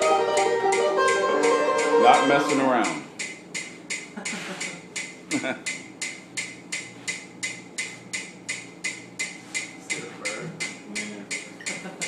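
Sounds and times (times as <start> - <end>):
metronome clicking: 0.0 - 11.9.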